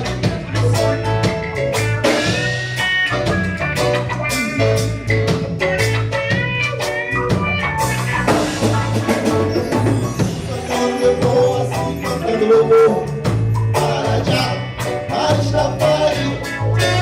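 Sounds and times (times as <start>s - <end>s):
bass line: 0.0s - 17.0s
guitar: 0.0s - 17.0s
reggae band playing: 0.0s - 17.0s
steady drum beat: 0.0s - 17.0s.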